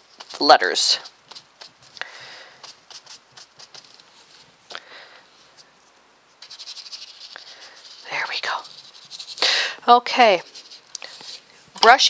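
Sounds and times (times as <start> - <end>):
paintbrush rubbing on paper: 0.0 - 4.6, 5.4 - 9.4, 10.2 - 11.5.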